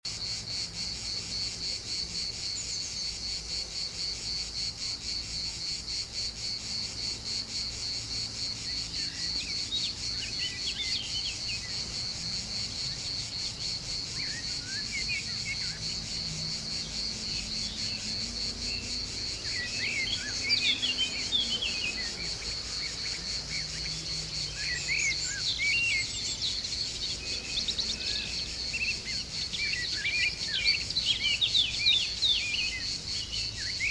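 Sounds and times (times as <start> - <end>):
insects trilling: 0.1 - 33.9.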